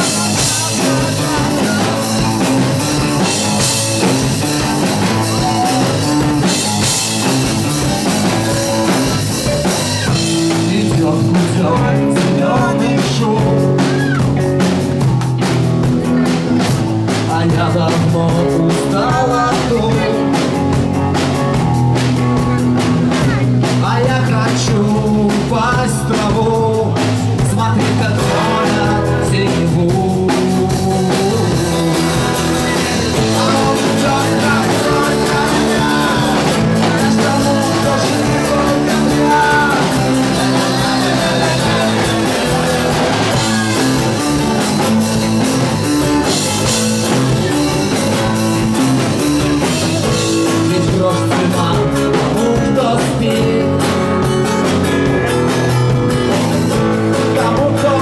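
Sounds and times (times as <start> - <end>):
man singing: 0.0 - 15.0, 16.0 - 21.7, 22.4 - 58.0
bass guitar: 0.0 - 58.0
drum kit: 0.0 - 58.0
electric guitars: 0.0 - 58.0.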